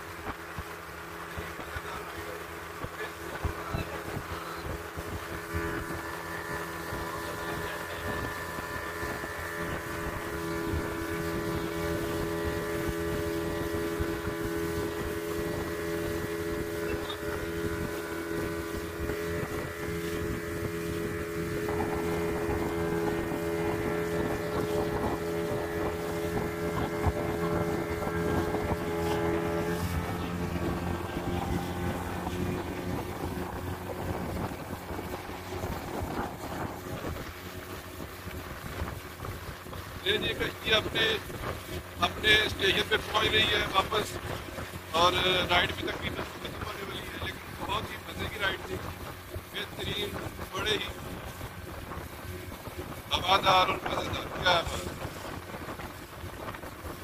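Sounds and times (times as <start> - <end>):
outboard motor running: 0.0 - 57.0
wind buffeting microphone: 0.0 - 57.0.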